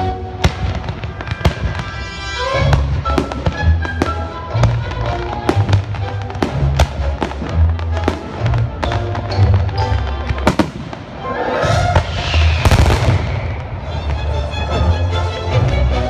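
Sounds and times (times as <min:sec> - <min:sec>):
firework crackling: 0:00.0 - 0:14.3.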